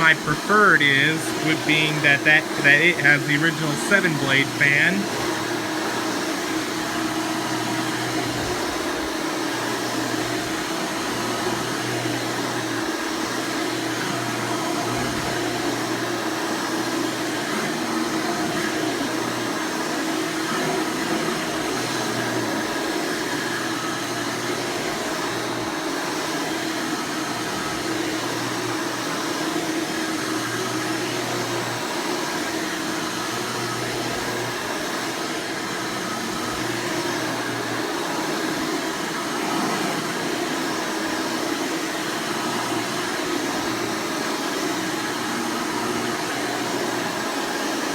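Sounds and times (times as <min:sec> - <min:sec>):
vacuum cleaner running: 0:05.0 - 0:47.9.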